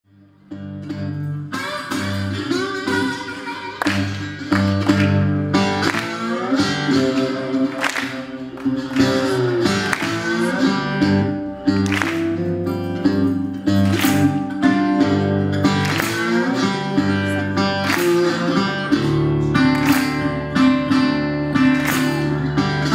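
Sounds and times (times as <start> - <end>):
fingerpicked blues guitar: 0.1 - 22.9.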